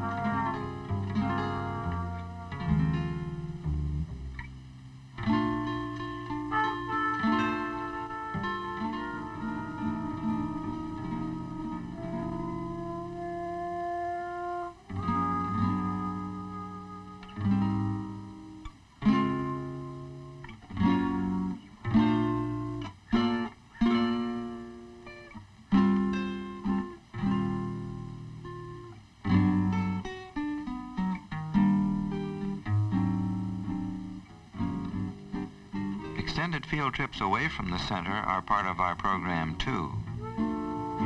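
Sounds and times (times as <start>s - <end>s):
acoustic guitar plucked chords: 0.0s - 41.0s.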